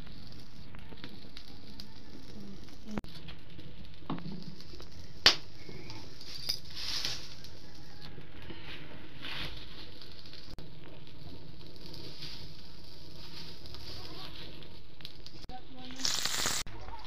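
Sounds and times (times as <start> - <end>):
fire hissing: 0.0 - 16.8
fire snapping: 0.0 - 17.0
wood fire crackling: 0.0 - 17.0.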